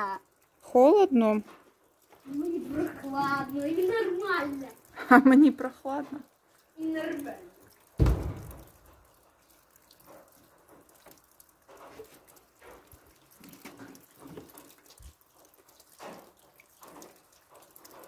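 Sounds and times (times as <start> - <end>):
water dripping off roof: 0.0 - 18.0.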